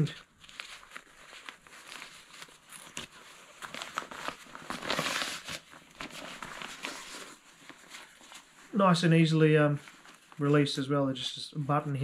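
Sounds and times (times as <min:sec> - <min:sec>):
nylon jacket rustling: 0:00.0 - 0:10.8.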